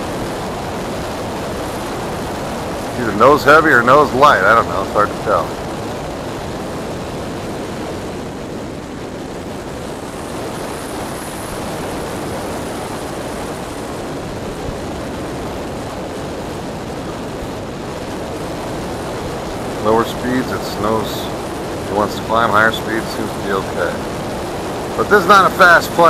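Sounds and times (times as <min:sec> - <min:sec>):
model airplane propeller rushing: 0:00.0 - 0:26.0.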